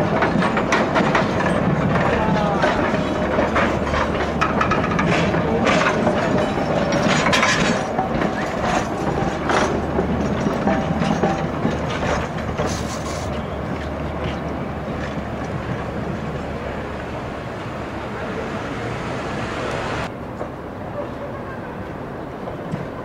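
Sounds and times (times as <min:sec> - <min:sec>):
train wheels clicking over rail joints: 0:00.0 - 0:20.5
train rumble: 0:00.0 - 0:23.0.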